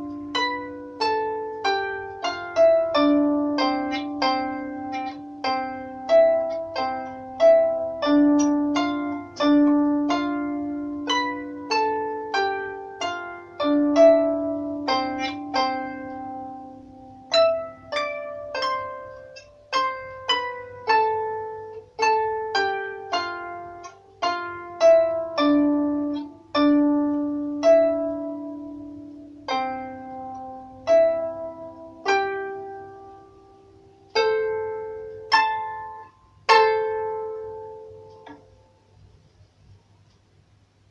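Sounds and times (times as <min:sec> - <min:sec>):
harp melody: 0:00.0 - 0:38.9.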